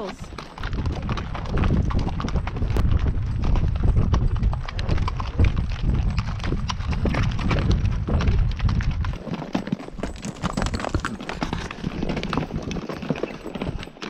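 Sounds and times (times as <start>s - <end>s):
mule hooves on rocky trail: 0.0s - 14.0s.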